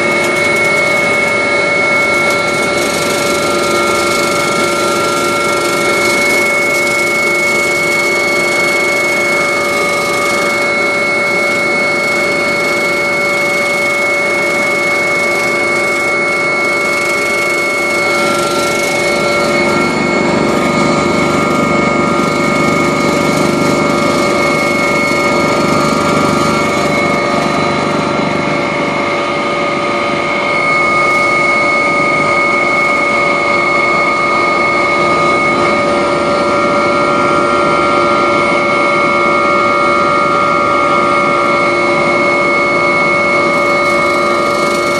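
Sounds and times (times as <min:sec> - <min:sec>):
helicopter turbine and rotors: 0:00.0 - 0:44.9.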